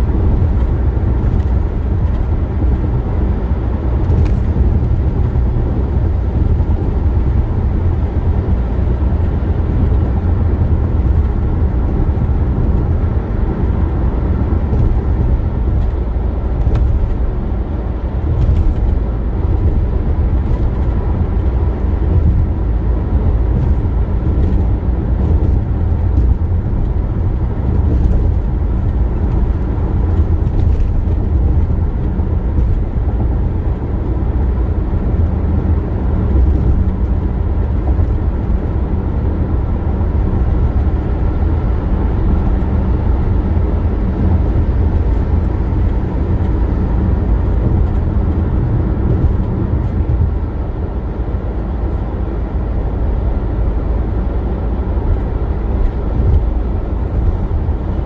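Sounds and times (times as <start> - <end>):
car engine hum: 0.0 - 58.0
tyre and road noise: 0.0 - 58.0.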